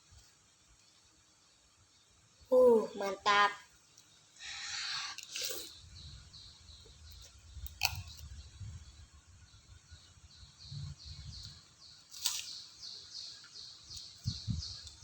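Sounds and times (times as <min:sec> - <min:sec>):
small bird chirping: 0:02.5 - 0:15.0.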